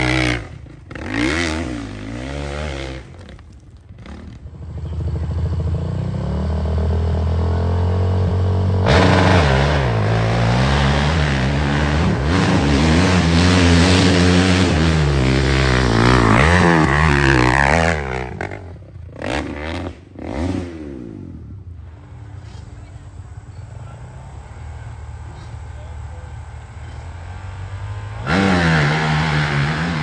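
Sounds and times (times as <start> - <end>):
dirt bike engine revving: 0.0 - 22.8, 24.0 - 30.0.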